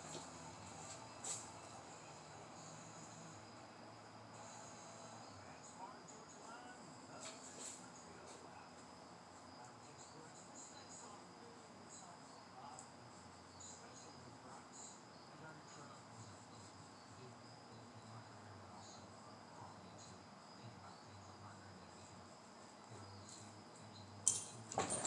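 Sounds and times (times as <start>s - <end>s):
insect chirping: 0.0s - 25.0s
low steady hum: 0.0s - 25.0s.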